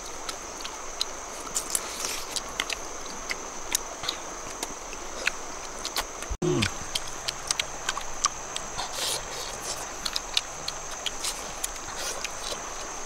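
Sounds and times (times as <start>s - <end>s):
people eating by hand: 0.0s - 13.0s.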